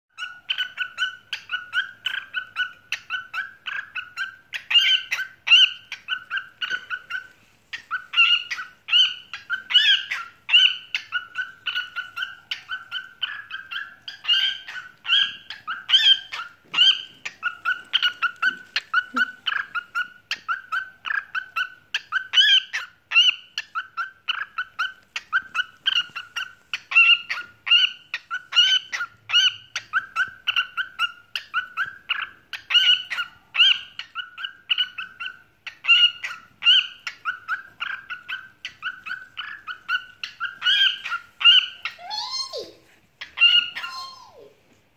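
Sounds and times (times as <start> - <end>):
cockatiel chirping whistles: 0.2 - 44.4.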